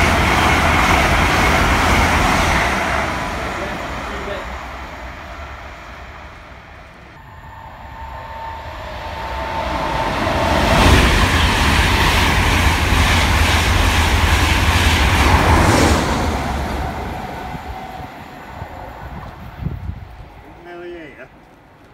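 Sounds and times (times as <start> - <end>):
train passing at speed: 0.0 - 21.9.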